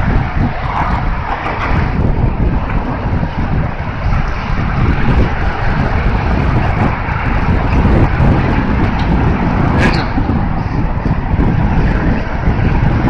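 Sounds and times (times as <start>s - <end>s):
car traffic rumble: 0.0s - 13.0s
wind buffeting microphone: 0.0s - 13.0s.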